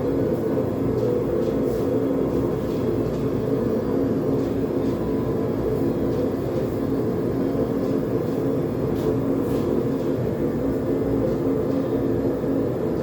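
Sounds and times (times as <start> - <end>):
forge burner roaring: 0.0 - 13.0.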